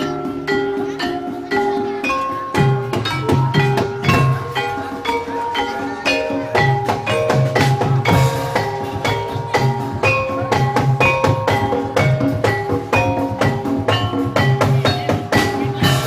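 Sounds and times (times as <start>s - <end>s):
low drum beat: 0.0s - 16.0s
tuned percussion ringing notes: 0.0s - 16.0s.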